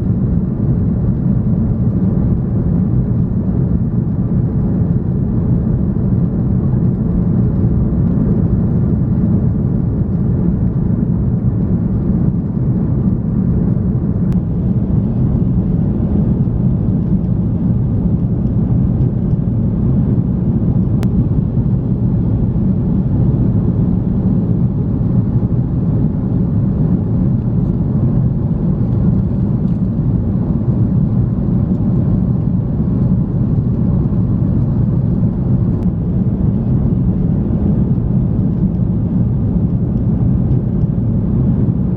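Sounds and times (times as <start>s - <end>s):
airliner cabin engine roar: 0.0s - 41.9s.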